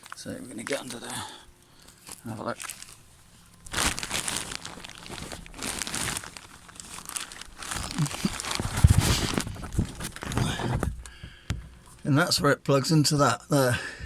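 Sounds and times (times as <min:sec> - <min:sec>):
rustling handling noise: 0:00.0 - 0:13.0.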